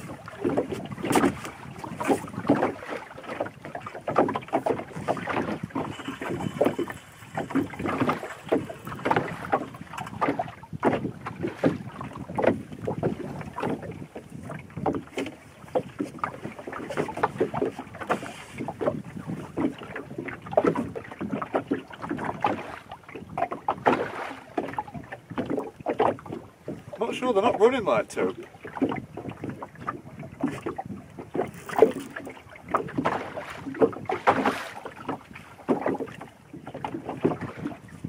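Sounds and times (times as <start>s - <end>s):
wind on microphone: 0.0s - 27.0s, 28.4s - 38.0s
water lapping against boat hull: 0.0s - 38.0s.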